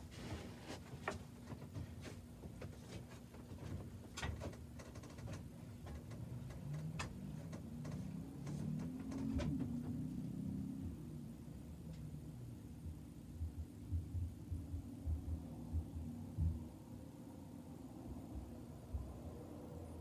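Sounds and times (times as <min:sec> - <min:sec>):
furnace low hum: 0:00.0 - 0:20.0.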